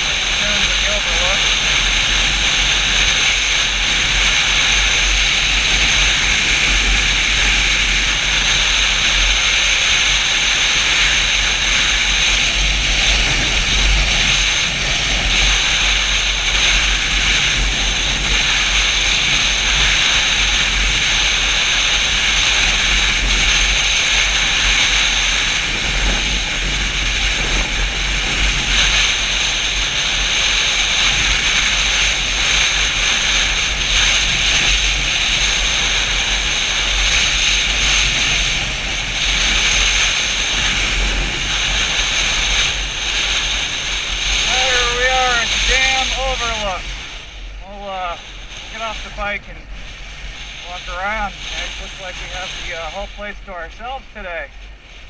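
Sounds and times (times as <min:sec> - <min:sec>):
motorcycle engine: 0:00.0 - 0:52.5
wind buffeting microphone: 0:00.0 - 0:53.9
road noise: 0:00.0 - 0:55.0.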